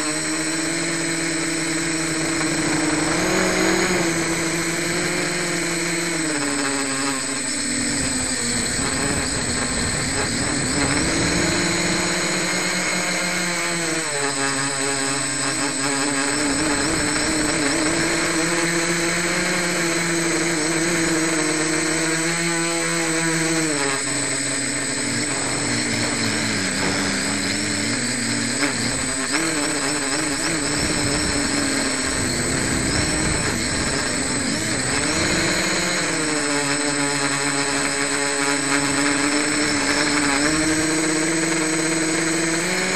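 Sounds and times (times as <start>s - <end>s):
steady high-pitched tone: 0.0s - 37.4s
drone propellers whining: 0.0s - 42.9s.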